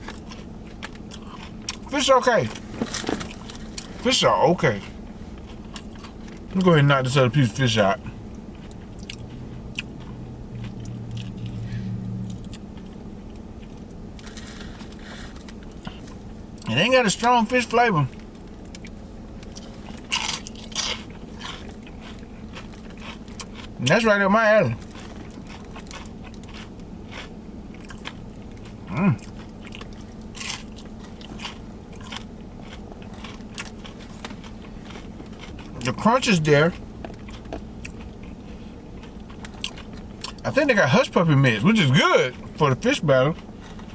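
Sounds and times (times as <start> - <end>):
person chewing crispy food: 0.0 - 40.7, 41.7 - 43.9
steady low hum: 0.0 - 43.9.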